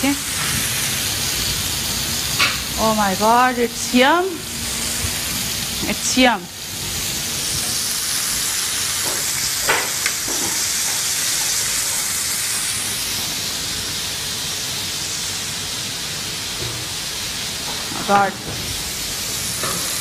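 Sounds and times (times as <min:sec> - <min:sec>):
meat and onions sizzling in grill pan: 0:00.0 - 0:20.0.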